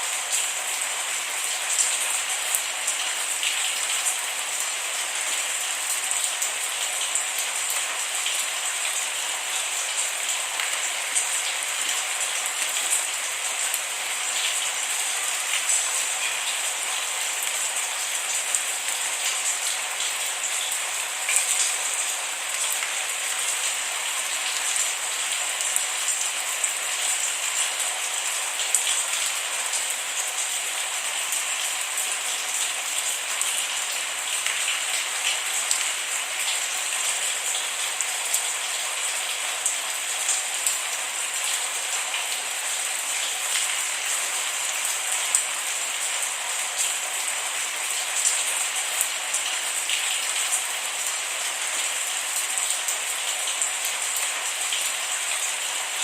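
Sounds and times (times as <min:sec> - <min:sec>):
steady rain: 0:00.0 - 0:56.0
raindrops ticking on a surface: 0:00.1 - 0:56.0.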